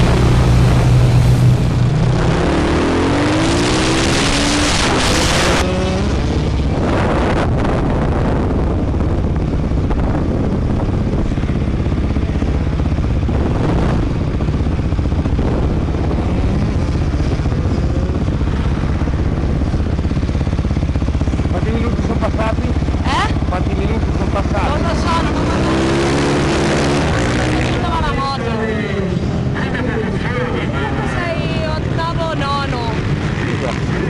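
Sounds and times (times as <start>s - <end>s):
wind rushing over microphone: 0.0s - 29.6s
motorcycle engine: 0.0s - 34.0s.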